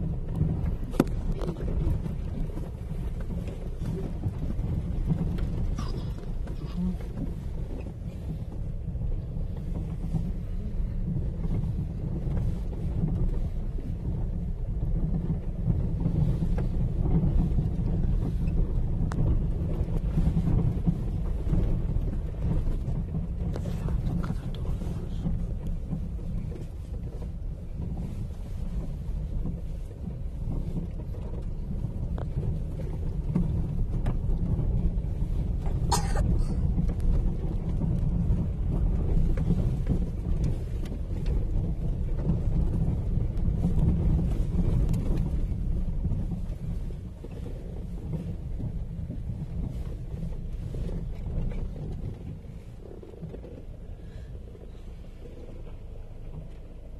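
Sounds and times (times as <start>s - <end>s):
car rumbling over dirt road: 0.0s - 56.9s.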